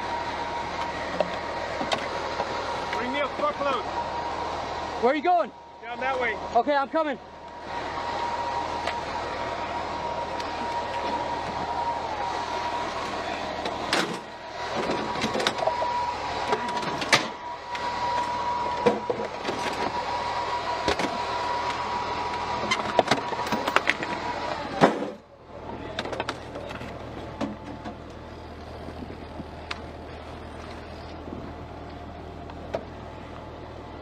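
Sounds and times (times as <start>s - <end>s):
armored vehicle engine whine: 0.0s - 34.0s.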